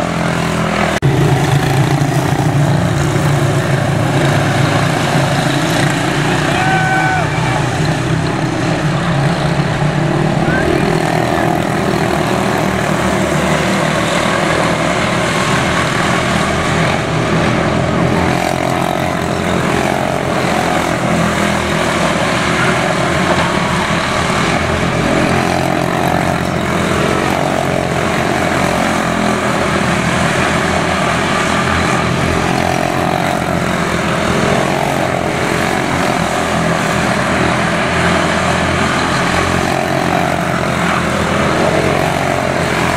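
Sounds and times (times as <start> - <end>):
small race car engines buzzing: 0.0 - 42.9.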